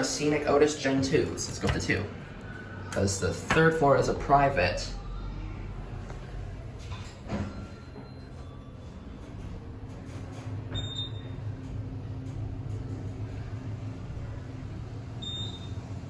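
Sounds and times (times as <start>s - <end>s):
elevator humming: 0.0s - 16.0s.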